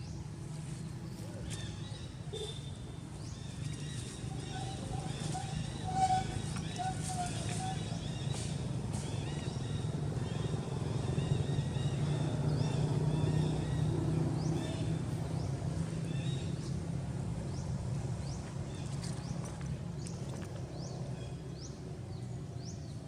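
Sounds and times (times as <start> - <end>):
low engine-like hum: 0.0 - 23.0.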